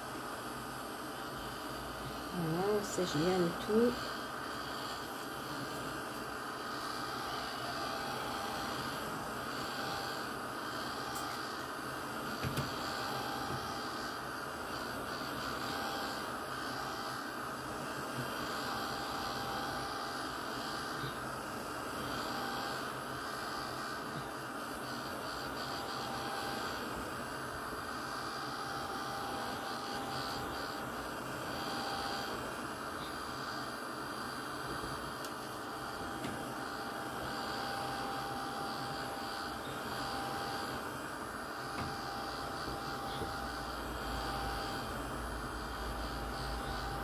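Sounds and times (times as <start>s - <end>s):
faint steady whine: 0.0s - 47.0s
heat gun hissing: 0.0s - 47.0s.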